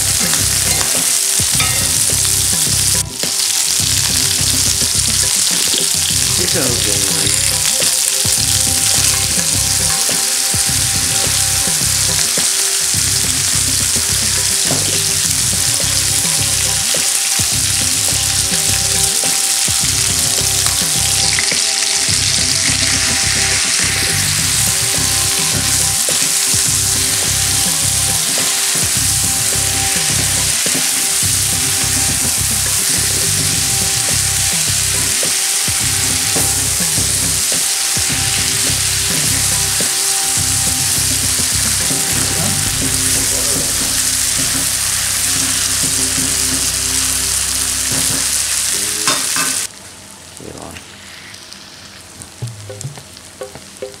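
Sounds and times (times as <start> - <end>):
chicken sizzling in oil: 0.0 - 49.7.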